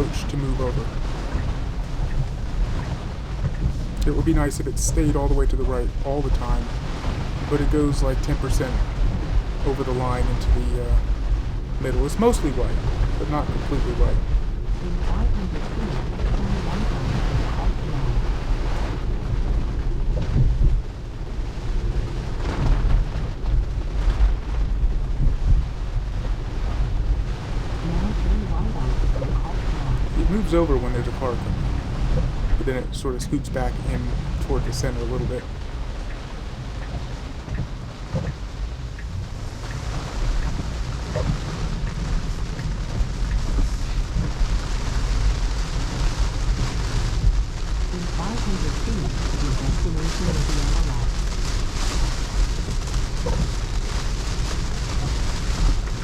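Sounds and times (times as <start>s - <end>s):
rain hiss: 0.0s - 56.0s
tyres swishing on wet road: 0.0s - 56.0s.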